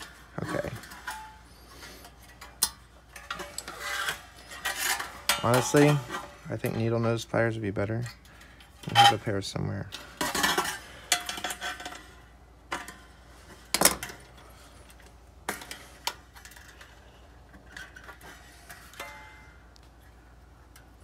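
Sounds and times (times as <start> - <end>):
sheet metal clinks and scrapes: 0.0 - 19.8.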